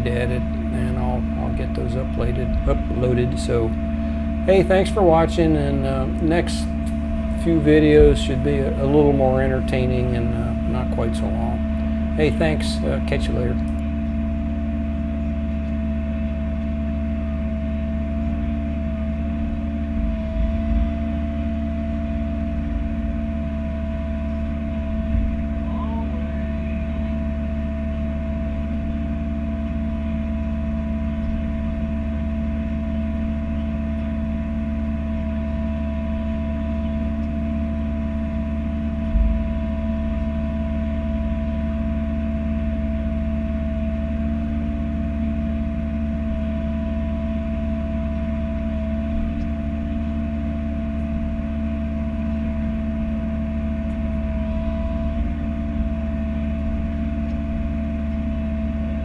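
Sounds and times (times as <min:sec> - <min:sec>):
diesel engine running: 0:00.0 - 0:59.0
steady whine: 0:00.0 - 0:59.0.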